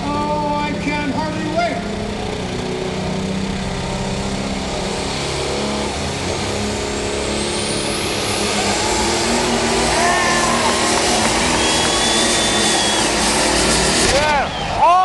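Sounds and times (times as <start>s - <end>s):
tractor diesel engine running hard: 0.0s - 15.0s.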